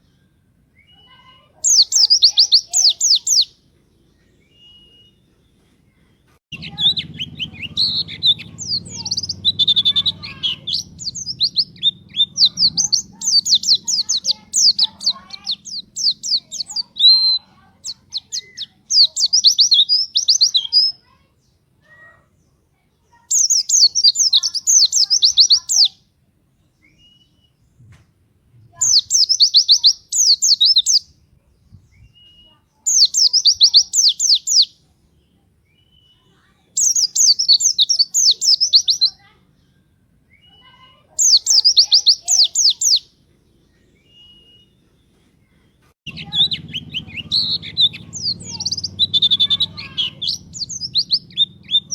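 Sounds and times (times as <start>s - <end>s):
bird chattering song: 0.8s - 3.5s, 6.5s - 21.2s, 23.1s - 26.0s, 28.7s - 31.1s, 31.9s - 39.4s, 40.3s - 51.9s.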